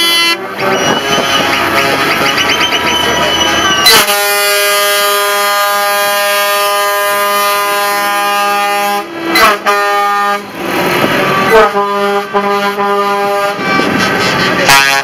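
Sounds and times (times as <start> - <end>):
truck air horn blasts: 0.0 - 2.6, 3.2 - 15.0
truck engine and road noise: 0.0 - 15.0.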